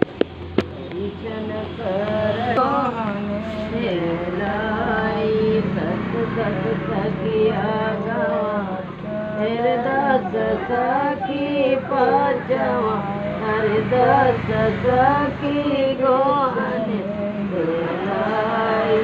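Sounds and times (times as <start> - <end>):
women singing folk song: 0.7 - 19.0.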